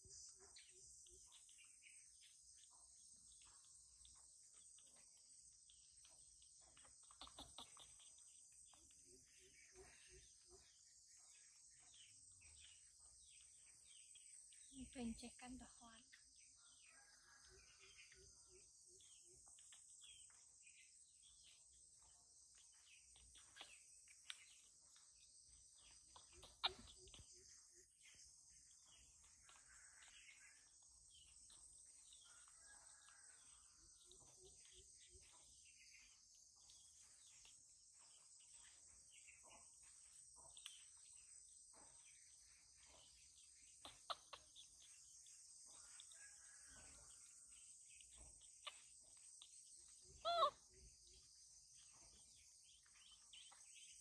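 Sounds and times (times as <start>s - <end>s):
faint chirps: 0.0s - 54.0s.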